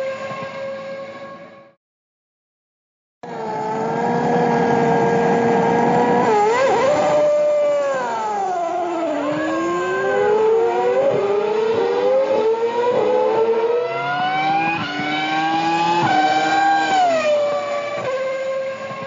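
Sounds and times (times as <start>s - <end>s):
racing car engine: 3.2s - 19.0s.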